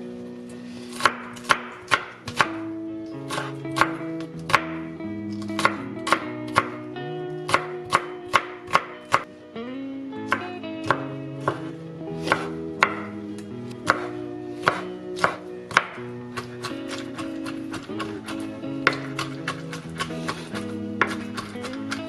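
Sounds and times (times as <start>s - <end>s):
light background music: 0.0s - 22.0s
knife chopping on wooden board: 0.9s - 2.6s, 3.3s - 6.8s, 7.5s - 9.3s, 10.3s - 13.1s, 13.9s - 22.0s.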